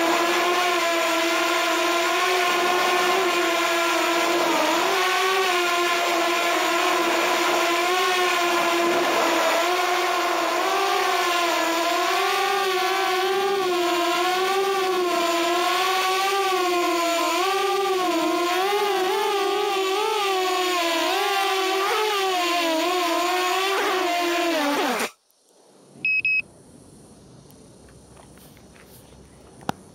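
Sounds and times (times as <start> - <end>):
quadcopter motors whining: 0.0 - 25.2.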